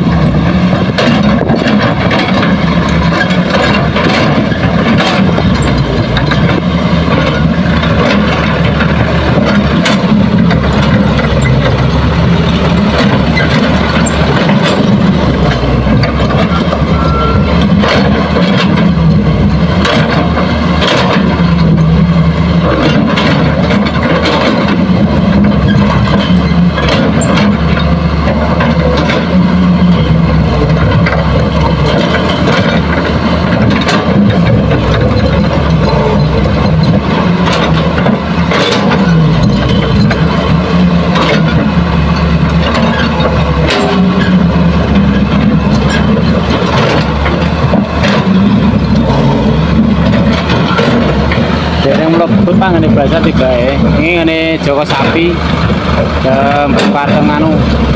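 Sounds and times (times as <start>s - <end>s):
dump truck moving: 0.0s - 57.9s
excavator diesel engine digging: 0.0s - 57.9s.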